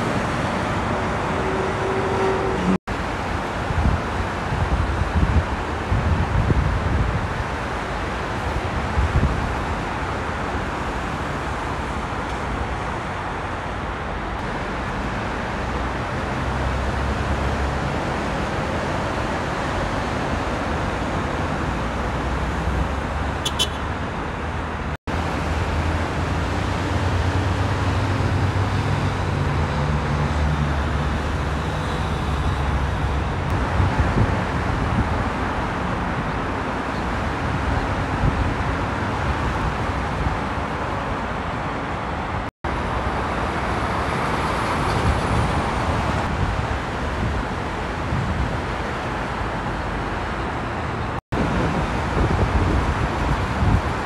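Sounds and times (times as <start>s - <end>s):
car and truck engines: 0.0s - 54.0s.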